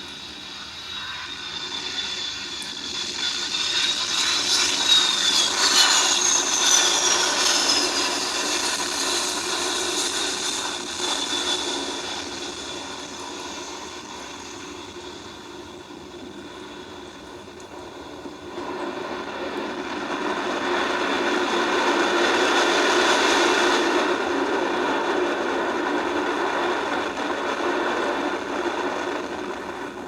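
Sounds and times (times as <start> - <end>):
high engine whine: 0.0 - 30.0
jet airliner passing by: 0.0 - 30.0.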